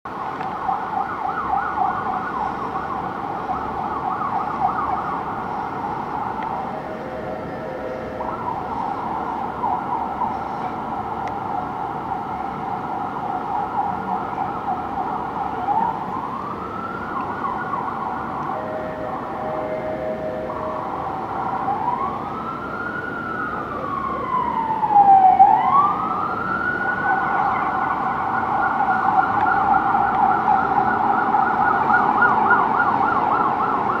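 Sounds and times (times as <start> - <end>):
electronic siren yelp and wail: 0.2 - 34.0.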